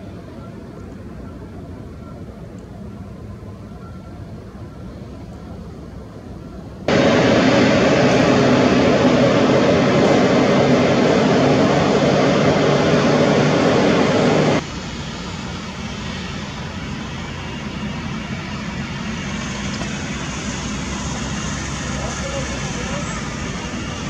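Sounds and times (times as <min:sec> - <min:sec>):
jet airliner engines roaring: 0:00.0 - 0:24.0
jet engine taxiing: 0:00.1 - 0:24.0.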